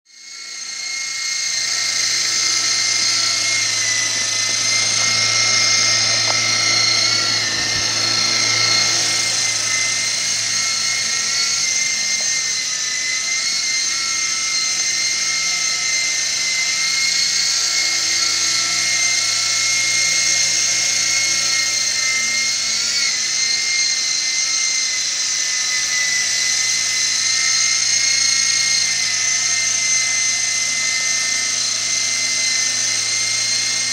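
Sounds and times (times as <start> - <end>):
toy helicopter motor whine: 0.1 - 33.9.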